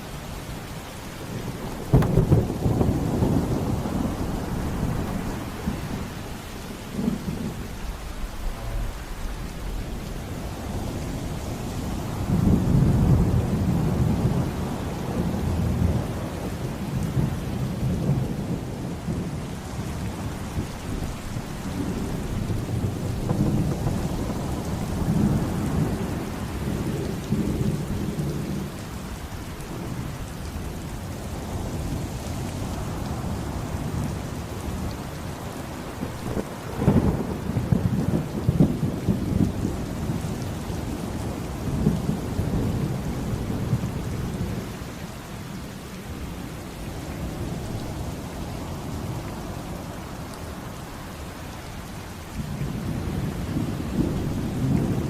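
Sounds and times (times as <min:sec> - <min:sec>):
heavy rain: 0:00.0 - 0:55.0
rolling thunder: 0:00.0 - 0:55.0.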